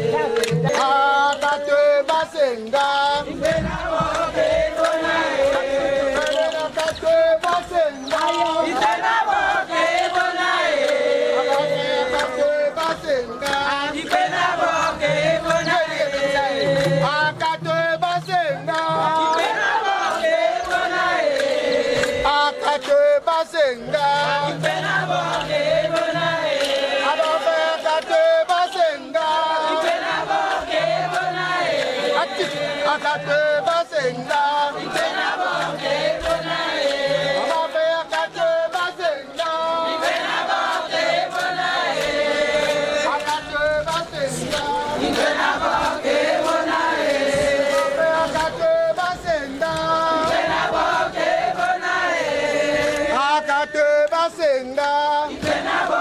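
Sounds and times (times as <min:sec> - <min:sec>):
group chanting: 0:00.0 - 0:56.0.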